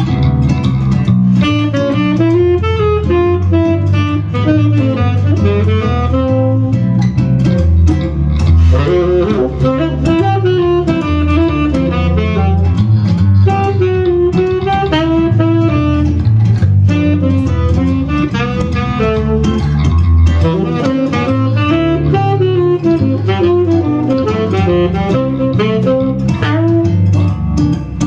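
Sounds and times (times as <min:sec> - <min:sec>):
acoustic guitar: 0:00.0 - 0:28.0
bass line: 0:00.0 - 0:28.0
electric guitar: 0:00.0 - 0:28.0
saxophone melody: 0:00.0 - 0:28.0.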